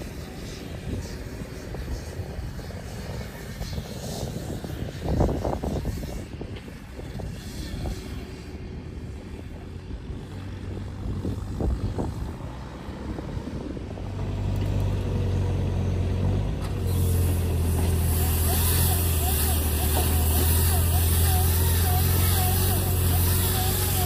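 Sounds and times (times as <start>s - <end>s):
distant tractor engine running: 0.0s - 24.0s
nearby tractor engine droning: 0.0s - 24.0s.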